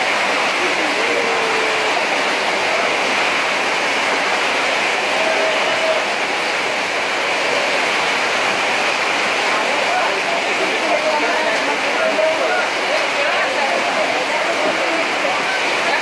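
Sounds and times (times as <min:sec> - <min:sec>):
floodwater rushing: 0:00.0 - 0:16.0
torrential rain: 0:00.0 - 0:16.0.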